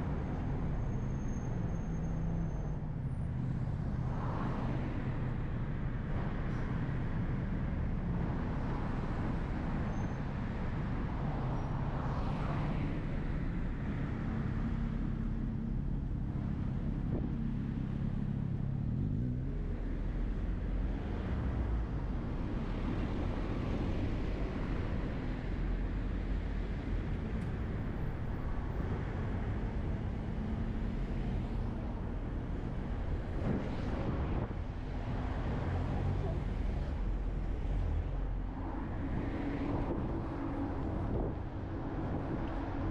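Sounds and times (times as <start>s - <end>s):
traffic rumble: 0.0s - 42.9s
vehicle engine humming nearby: 0.0s - 42.9s.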